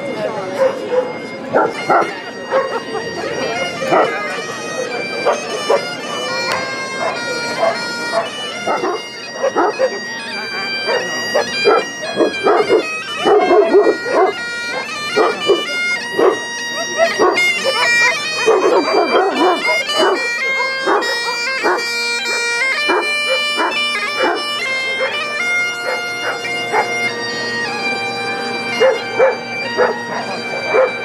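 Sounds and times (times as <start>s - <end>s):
bagpipe playing: 0.0s - 31.0s
dogs barking: 0.5s - 3.1s, 3.8s - 4.2s, 5.0s - 27.7s, 28.6s - 31.0s.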